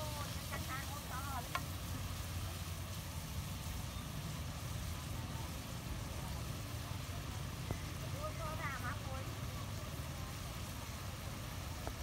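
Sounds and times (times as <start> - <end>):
food sizzling in wok: 0.0 - 12.0
gas burner rumble: 0.0 - 12.0.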